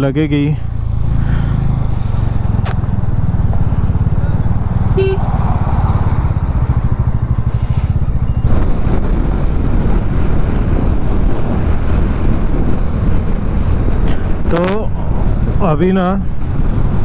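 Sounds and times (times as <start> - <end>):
motorcycle engine running: 0.1 - 17.0.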